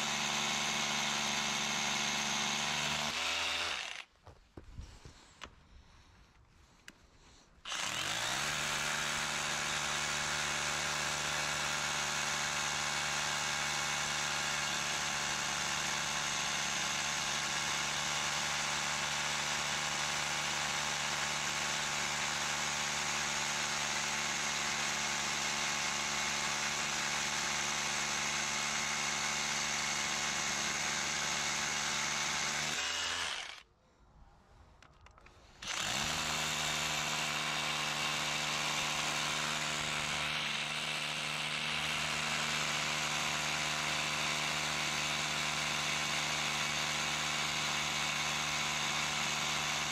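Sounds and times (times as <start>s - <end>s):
electric power tool motor running: 0.0s - 4.1s, 7.7s - 33.6s, 35.6s - 49.9s.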